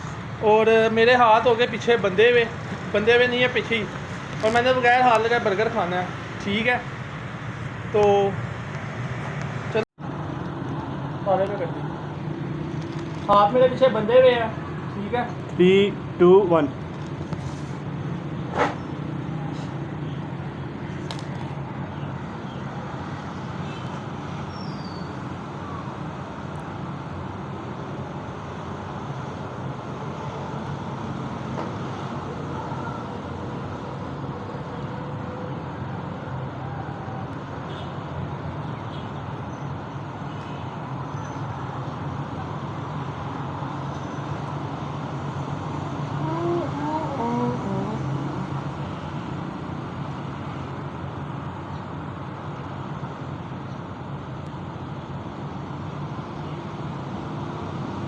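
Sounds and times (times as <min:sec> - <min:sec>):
road traffic hum: 0:00.0 - 0:58.0.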